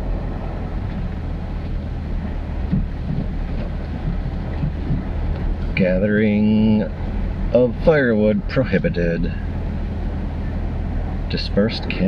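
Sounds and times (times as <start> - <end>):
low engine drone: 0.0 - 12.0
tyre and road noise: 0.0 - 12.0.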